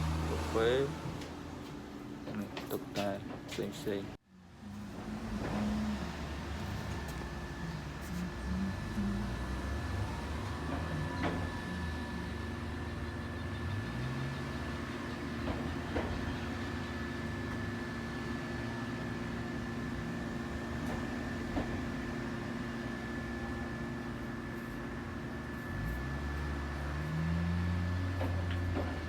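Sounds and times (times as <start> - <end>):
vending machine cooling hum: 0.0 - 29.0.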